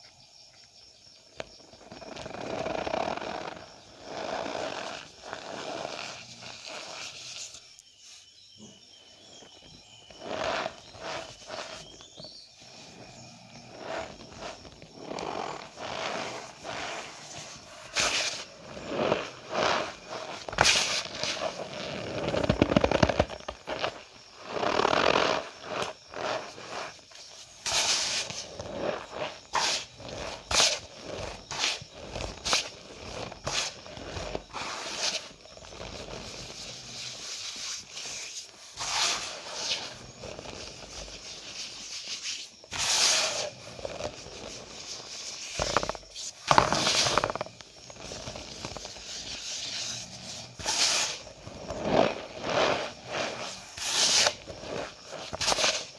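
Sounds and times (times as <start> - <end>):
cornstarch squeaking and crunching: 9.2 - 12.3, 13.6 - 55.9.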